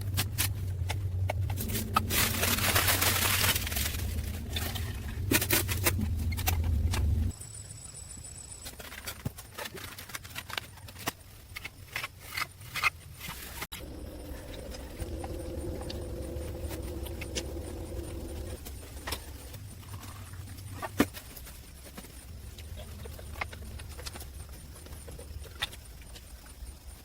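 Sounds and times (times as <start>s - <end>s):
steady low hum: 0.0s - 8.6s, 13.6s - 27.0s.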